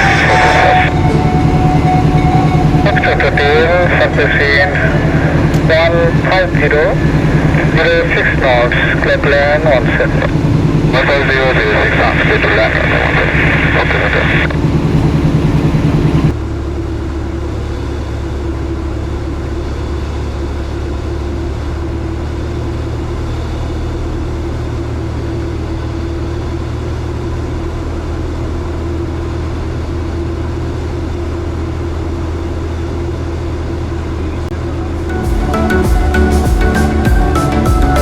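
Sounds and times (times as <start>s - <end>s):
airplane engine and propeller drone: 0.0s - 38.0s.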